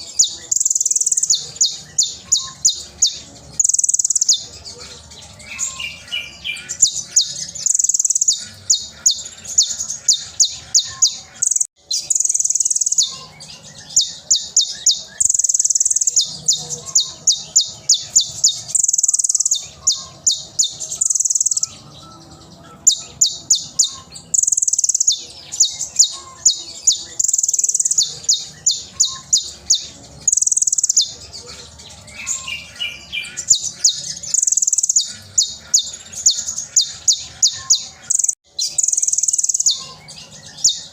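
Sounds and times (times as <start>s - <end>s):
sunbird singing: 0.0s - 40.9s.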